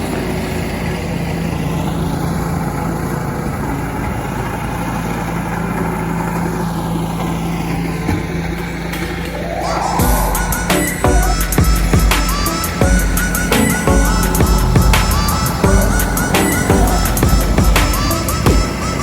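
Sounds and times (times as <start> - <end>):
broad rushing noise: 0.0 - 19.0
engine humming: 0.0 - 19.0.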